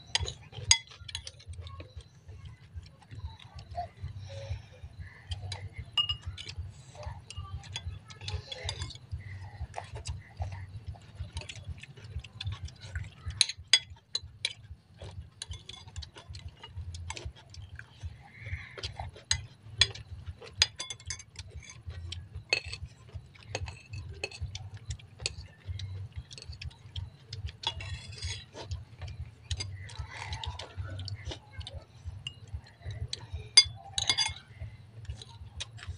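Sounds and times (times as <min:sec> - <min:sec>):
spoons clinking on ceramic bowls: 0:00.0 - 0:02.1, 0:02.9 - 0:35.9
steady low hum: 0:00.0 - 0:35.9.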